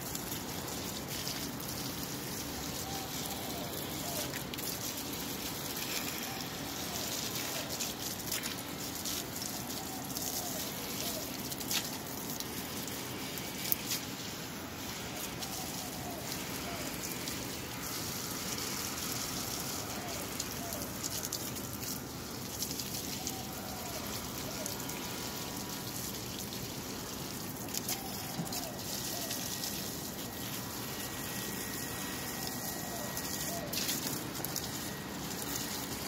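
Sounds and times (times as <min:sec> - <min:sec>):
garden hose water splashing: 0:00.0 - 0:36.0.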